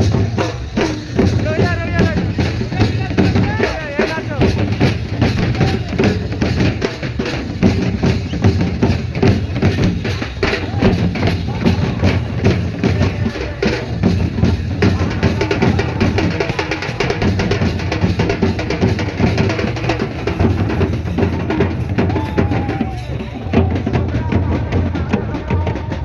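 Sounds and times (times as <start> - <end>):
loud fast drumming: 0.0 - 26.0.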